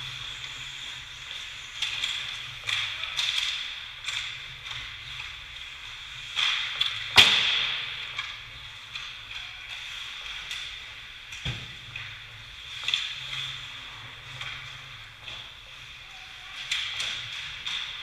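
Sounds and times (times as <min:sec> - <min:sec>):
stick and puck clacks: 0:00.1 - 0:18.0.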